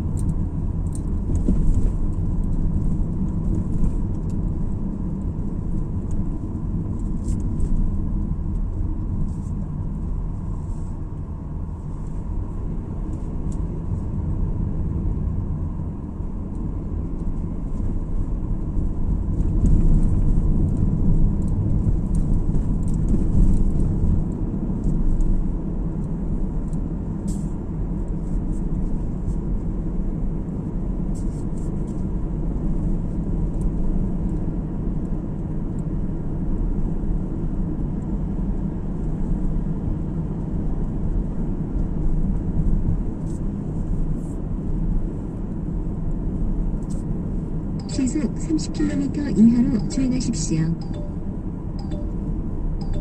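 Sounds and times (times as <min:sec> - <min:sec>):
car interior road rumble: 0:00.0 - 0:53.0.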